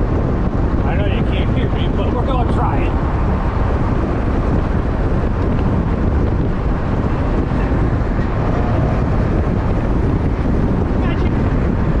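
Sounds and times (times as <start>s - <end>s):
diesel engine drone: 0.0s - 12.0s
road and wind noise: 0.0s - 12.0s.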